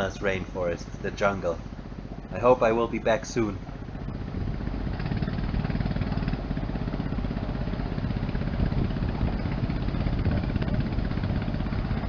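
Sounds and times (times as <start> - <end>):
ferry engine throbbing: 0.0 - 12.0.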